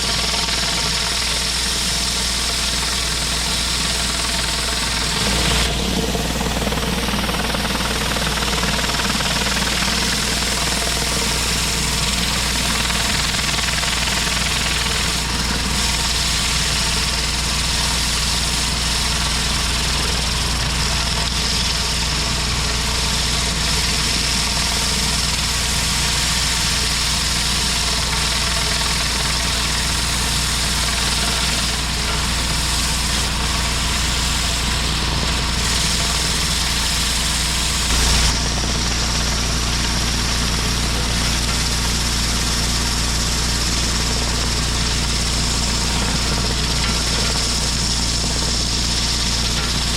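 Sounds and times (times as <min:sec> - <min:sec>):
water spray hissing on concrete: 0:00.0 - 0:06.3, 0:08.6 - 0:49.9
pressure washer engine running: 0:00.0 - 0:49.9.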